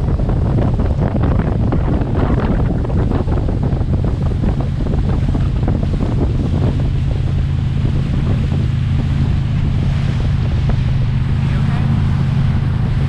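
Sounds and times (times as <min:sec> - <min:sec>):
motorboat engine drone: 0:00.0 - 0:13.0
rushing water: 0:00.0 - 0:13.0
wind noise on microphone: 0:00.0 - 0:13.0.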